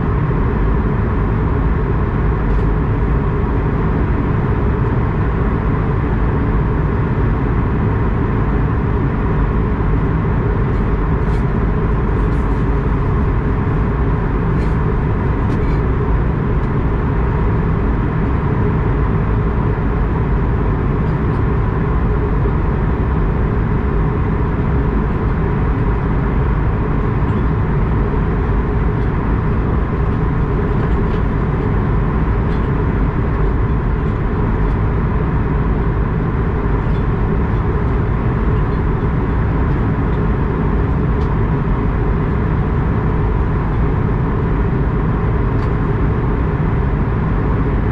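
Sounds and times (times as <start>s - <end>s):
jet engines running: 0.0s - 47.9s.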